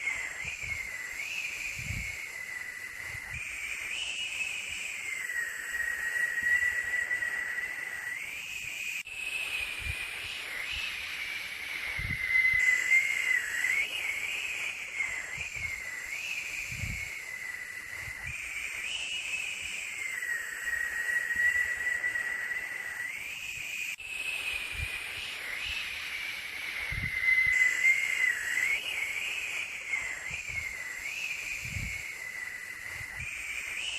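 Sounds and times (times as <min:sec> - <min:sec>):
white noise hiss with whistling tone: 0:00.0 - 0:33.9.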